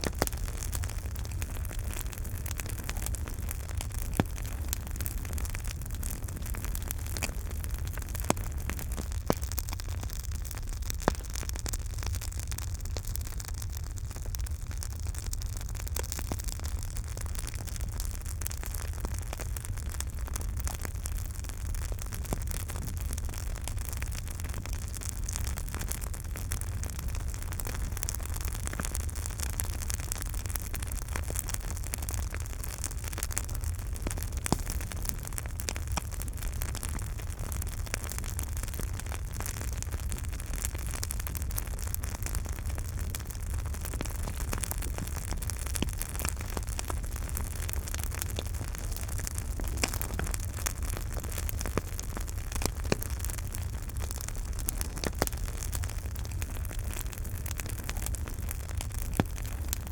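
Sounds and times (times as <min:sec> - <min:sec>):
burning wood crackling and popping: 0:00.0 - 0:59.9
campfire rumble and hiss: 0:00.0 - 0:59.9.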